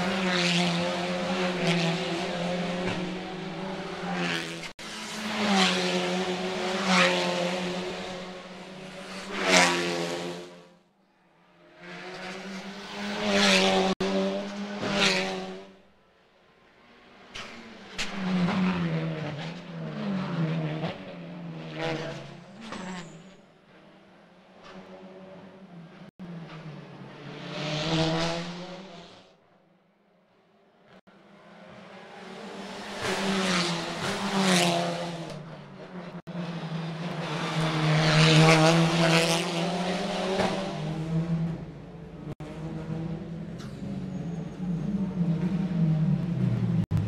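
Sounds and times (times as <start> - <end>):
racing cars passing at full throttle: 0.0 - 47.0.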